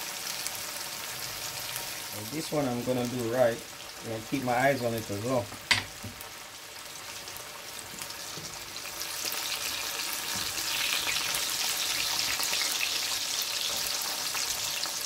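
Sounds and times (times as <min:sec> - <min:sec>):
slices frying in hot oil: 0:00.0 - 0:15.0.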